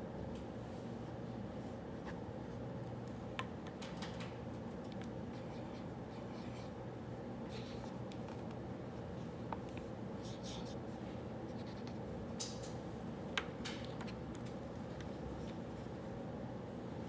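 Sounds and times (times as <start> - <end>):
room noise hum: 0.0 - 17.0.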